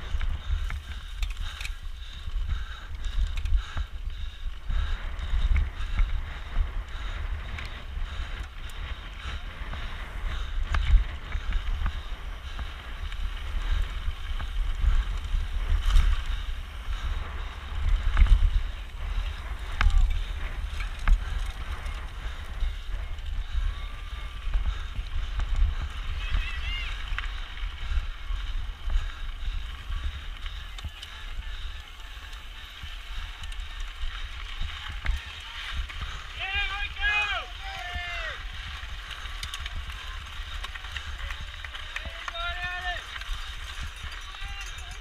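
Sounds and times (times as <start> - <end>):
bike tyres rattling on rough trail: 0.0 - 45.0
wind buffeting microphone: 0.0 - 45.0.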